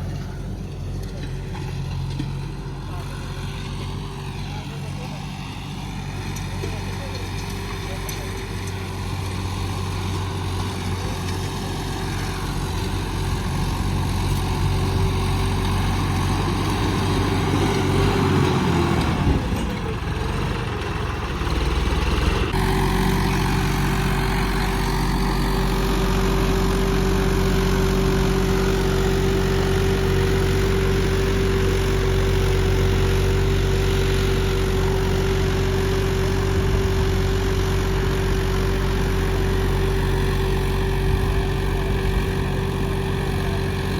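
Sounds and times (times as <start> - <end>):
tractor diesel engine revving: 0.0 - 43.9.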